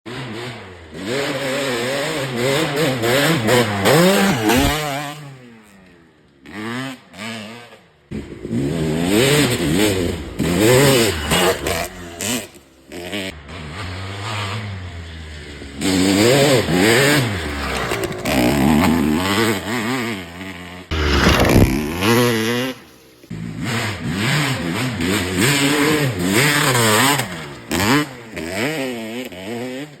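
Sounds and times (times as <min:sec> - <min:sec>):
motocross bike engine revving: 0:00.1 - 0:30.0.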